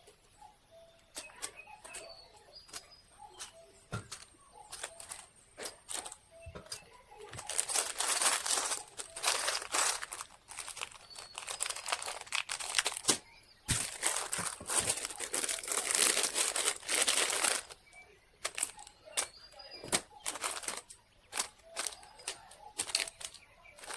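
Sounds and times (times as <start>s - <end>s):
crinkling and rustling: 1.1s - 23.9s.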